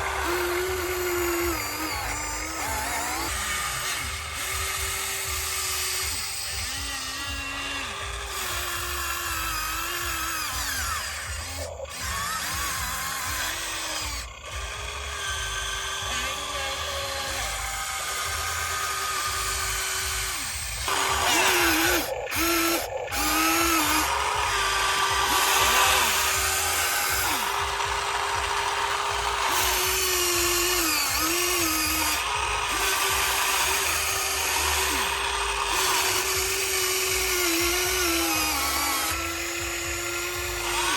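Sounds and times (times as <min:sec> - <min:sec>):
electric pump motor whining: 0:00.0 - 0:40.9.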